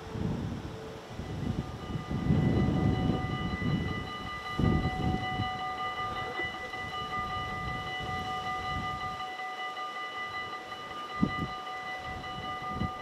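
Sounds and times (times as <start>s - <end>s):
level crossing bell ringing: 1.2s - 13.0s.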